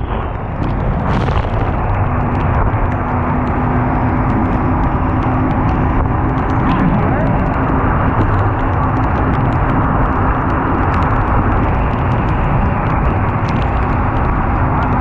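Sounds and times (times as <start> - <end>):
boat rushing through water: 0.0 - 15.0
outboard motors: 0.0 - 15.0
wind buffeting microphone: 0.0 - 15.0.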